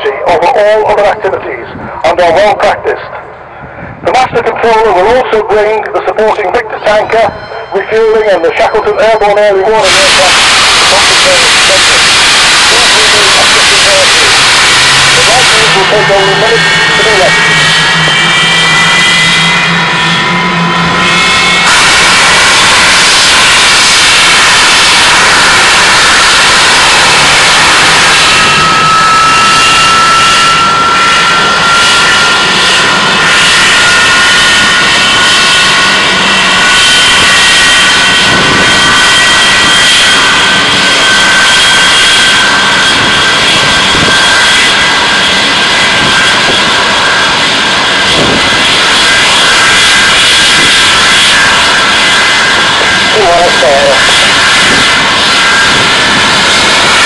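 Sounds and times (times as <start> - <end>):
jet engine roar: 0.0 - 57.0
rising jet engine whine: 0.0 - 57.0.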